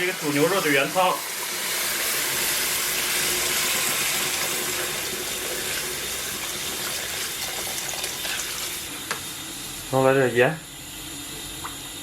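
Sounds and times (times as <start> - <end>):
broth pouring into wok: 0.0 - 9.9.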